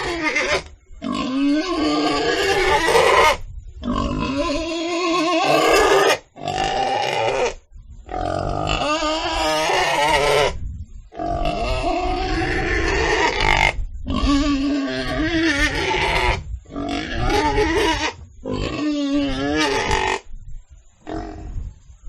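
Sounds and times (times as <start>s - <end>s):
pigs calling: 0.0s - 10.6s, 11.2s - 20.3s.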